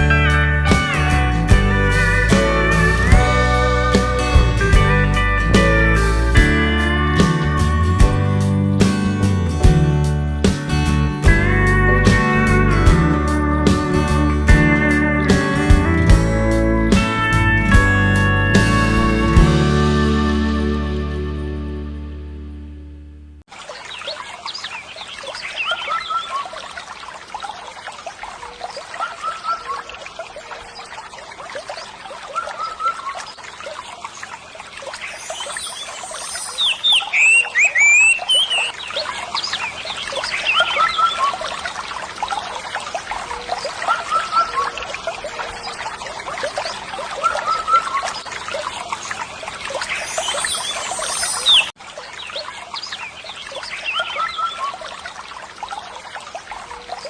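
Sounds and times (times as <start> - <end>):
water trickling: 0.0 - 21.2, 23.4 - 57.0.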